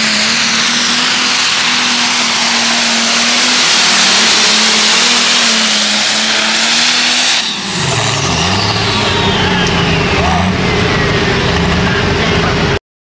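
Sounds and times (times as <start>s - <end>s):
high whine falling in pitch: 0.0s - 12.8s
tractor engine running flat out: 0.0s - 12.8s.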